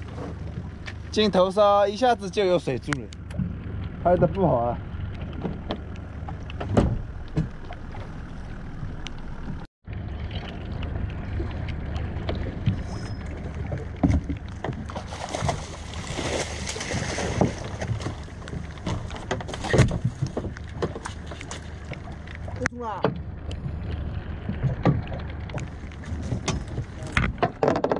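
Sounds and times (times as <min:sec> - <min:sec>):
boat low hum: 0:00.0 - 0:27.9
water splashing against boat: 0:00.0 - 0:27.9.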